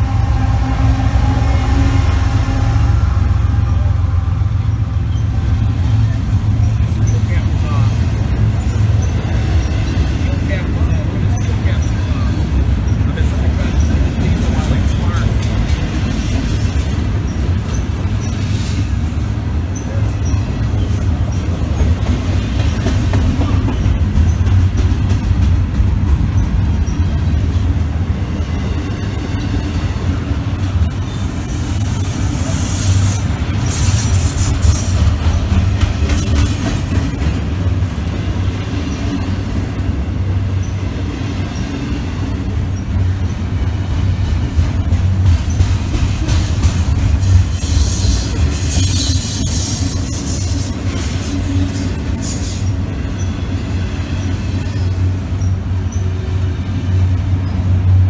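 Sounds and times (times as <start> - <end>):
high-pitched wheel noise: 0.0 - 58.0
train wheels rumbling on rail: 0.0 - 58.0.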